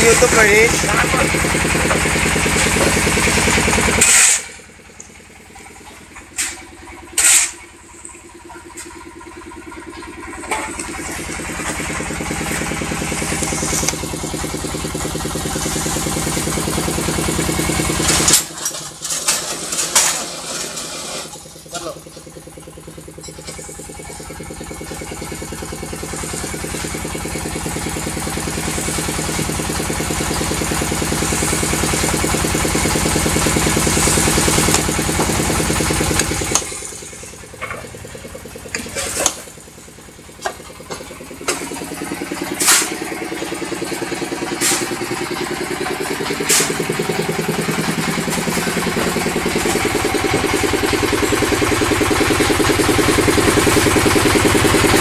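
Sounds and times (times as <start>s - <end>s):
vibrator motor humming: 0.0s - 4.0s, 8.8s - 18.5s, 19.6s - 55.0s.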